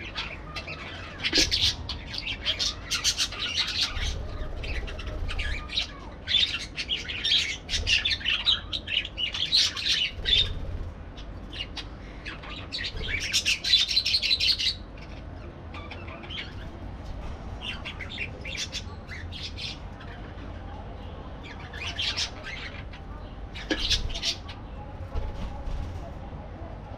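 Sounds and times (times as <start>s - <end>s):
parakeets chirping and chattering: 0.0s - 26.2s.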